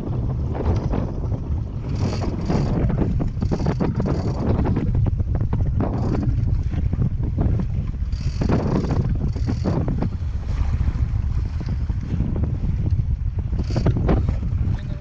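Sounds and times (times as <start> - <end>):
low rush of boat on sea: 0.0 - 15.0
wind buffeting microphone: 0.0 - 15.0.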